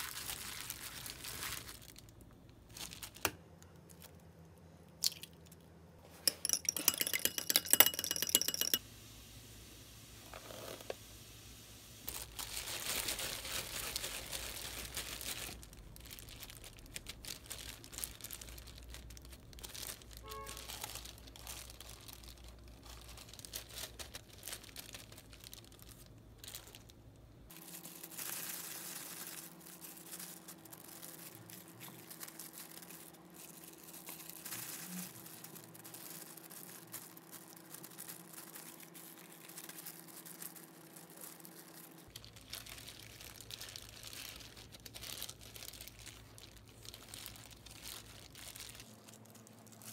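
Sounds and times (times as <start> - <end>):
plastic bag crinkling: 0.0 - 4.4, 12.0 - 49.9
plastic gloves rustling: 0.0 - 4.9, 9.6 - 49.9
faint steady hum: 0.0 - 49.9.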